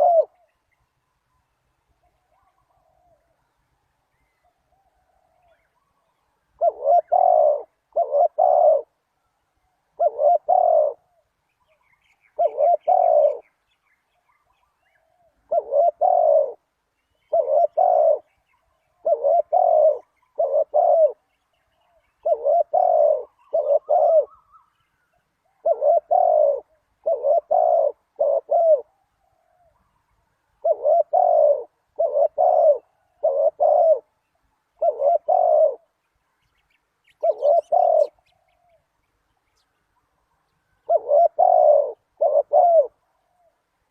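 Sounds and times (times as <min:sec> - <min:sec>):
dove cooing: 0:00.0 - 0:00.5, 0:02.0 - 0:03.6, 0:04.2 - 0:09.0, 0:09.6 - 0:13.6, 0:14.3 - 0:30.0, 0:30.6 - 0:36.0, 0:37.1 - 0:38.9, 0:40.6 - 0:43.9.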